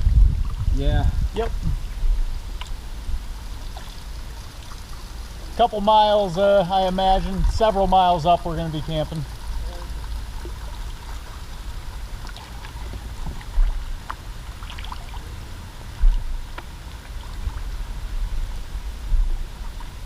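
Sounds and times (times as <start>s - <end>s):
wind rumble on microphone: 0.0s - 5.6s, 7.0s - 20.0s
water trickling around hull: 0.0s - 20.0s.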